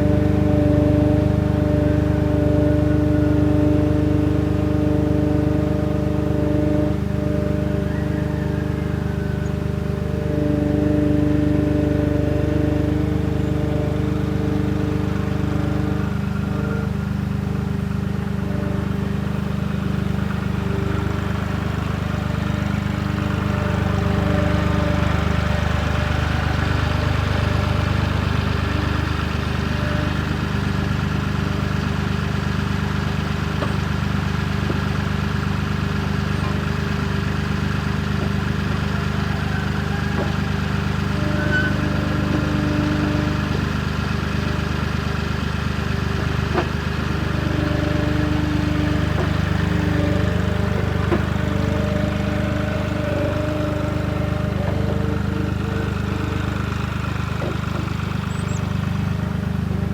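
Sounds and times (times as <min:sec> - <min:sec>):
loader engine running: 0:00.0 - 0:59.9.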